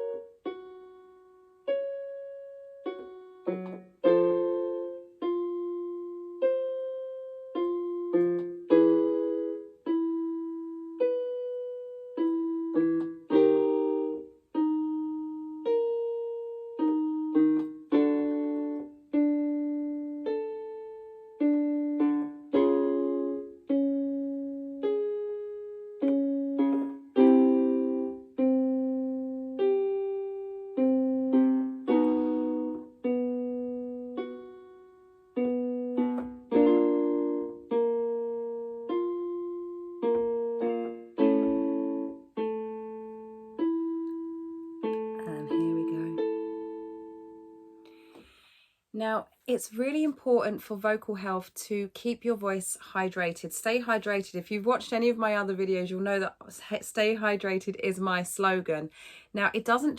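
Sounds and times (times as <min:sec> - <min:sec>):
piano chords: 0:00.0 - 0:48.2.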